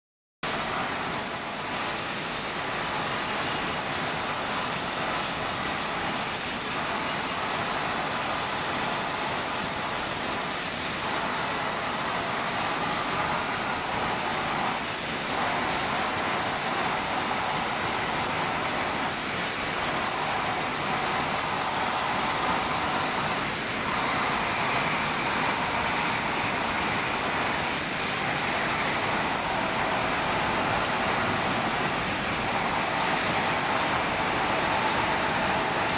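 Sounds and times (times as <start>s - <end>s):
gas burner flames hissing: 0.4s - 35.9s
glass-forming machinery pulsing: 0.5s - 35.9s.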